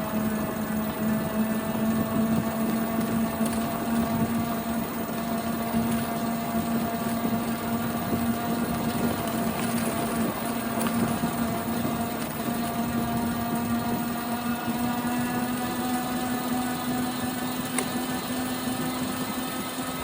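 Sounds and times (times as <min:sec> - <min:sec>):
bicycle whine: 0:00.0 - 0:20.0.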